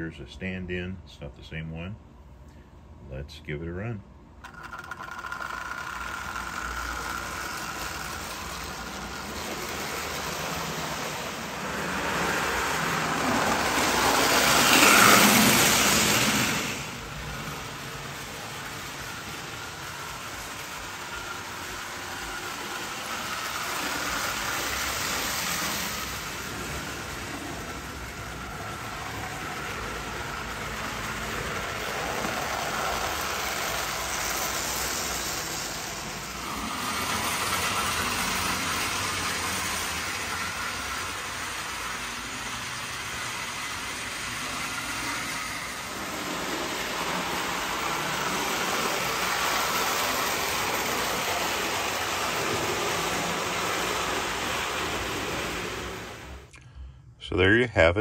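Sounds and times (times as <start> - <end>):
toy train rumbling clatter: 4.4 - 56.5.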